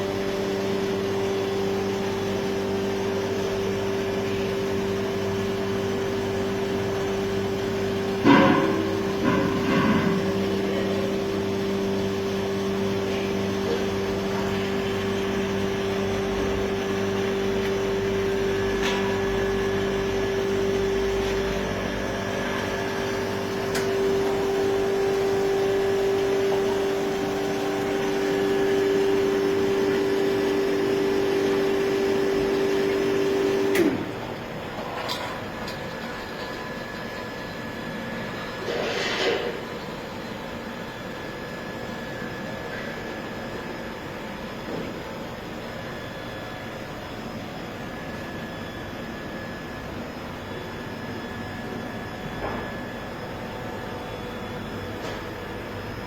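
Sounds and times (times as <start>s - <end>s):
humming pump motor: 0.0s - 56.0s.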